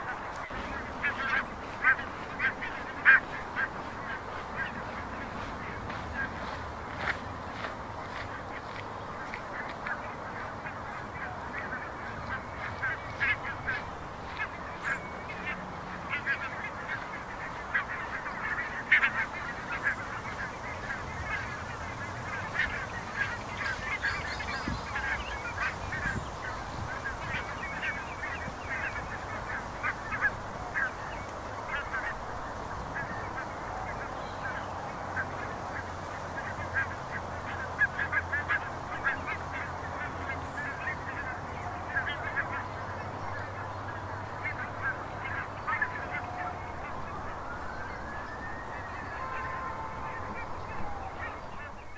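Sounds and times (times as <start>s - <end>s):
geese honking: 0.0s - 51.9s.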